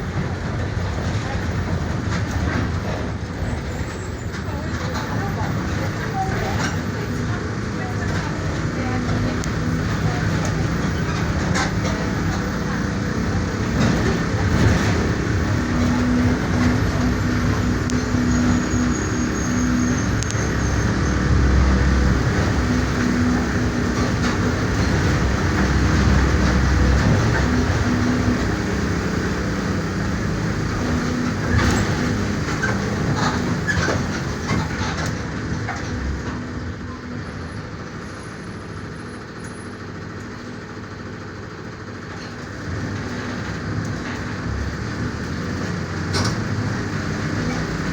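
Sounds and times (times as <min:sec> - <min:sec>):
bus diesel engine under load: 0:00.0 - 0:47.9
road rumble: 0:00.0 - 0:47.9.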